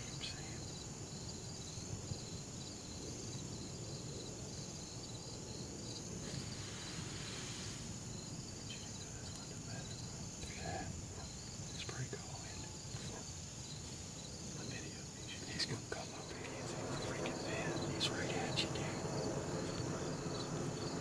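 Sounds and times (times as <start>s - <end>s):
insect pulsing chirp: 0.0s - 21.0s
insects trilling: 0.0s - 21.0s.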